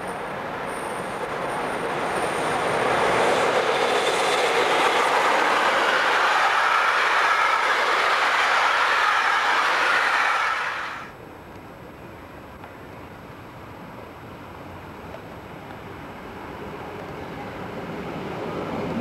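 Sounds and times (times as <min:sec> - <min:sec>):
train passing at speed: 0:00.0 - 0:11.2, 0:13.1 - 0:19.0.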